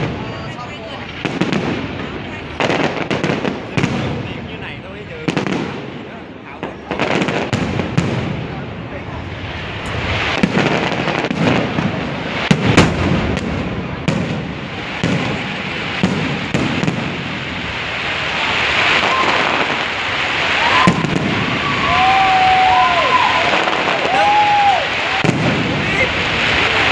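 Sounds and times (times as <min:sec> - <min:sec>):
fireworks booming: 0:00.0 - 0:26.9
fireworks fizzing crackle: 0:00.0 - 0:26.9.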